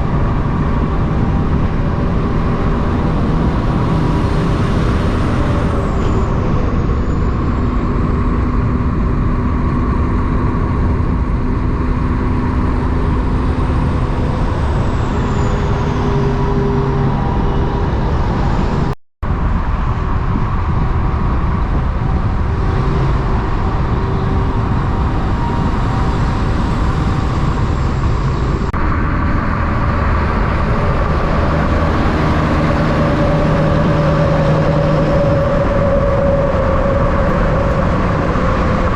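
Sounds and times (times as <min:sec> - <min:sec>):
diesel trucks passing: 0:00.0 - 0:38.9.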